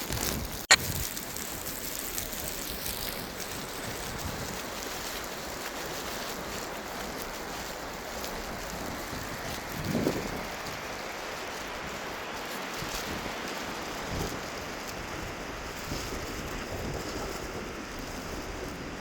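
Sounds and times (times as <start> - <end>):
wind: 0.0 - 19.0.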